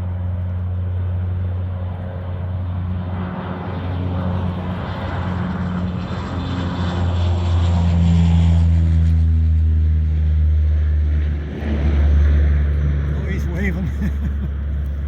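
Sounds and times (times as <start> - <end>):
propeller engine droning: 0.0 - 15.0.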